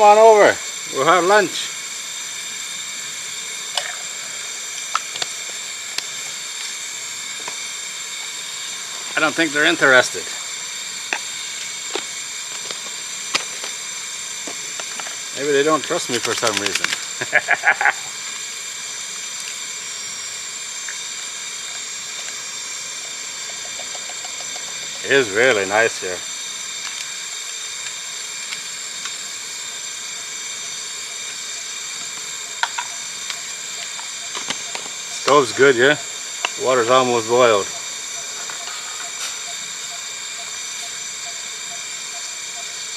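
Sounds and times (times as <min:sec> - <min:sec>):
gas stove hissing: 0:00.0 - 0:42.9.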